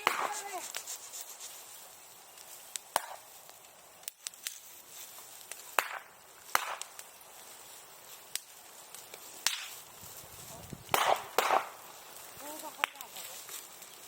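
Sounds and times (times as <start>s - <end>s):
bonfire crackling and popping: 0.0s - 14.0s
faint hiss of fire: 0.0s - 14.0s.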